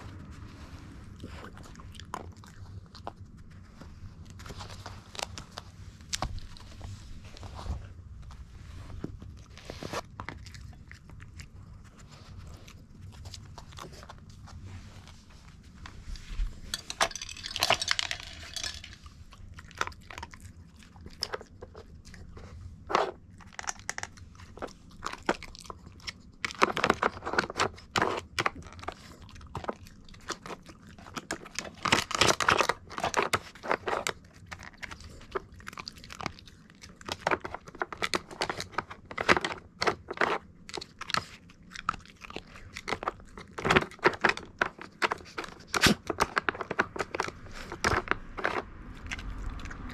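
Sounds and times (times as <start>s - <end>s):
dog crunching hard treats: 0.0s - 49.9s.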